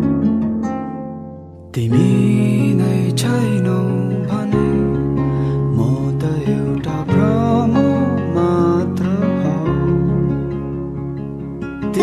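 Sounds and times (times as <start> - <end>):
song with guitar: 0.0 - 12.0.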